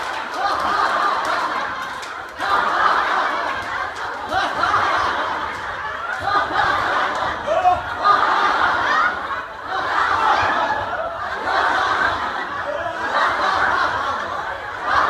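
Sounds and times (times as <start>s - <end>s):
group of people laughing: 0.0s - 15.0s.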